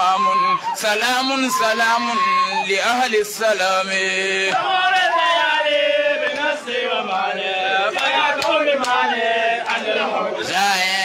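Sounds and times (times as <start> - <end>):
men chanting through loudspeaker: 0.0 - 11.0.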